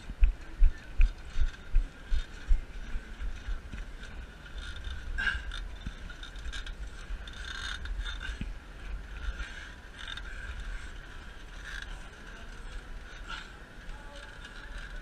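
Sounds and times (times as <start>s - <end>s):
scraping and creaking: 0.0s - 15.0s
wind rumbling on microphone: 0.0s - 15.0s.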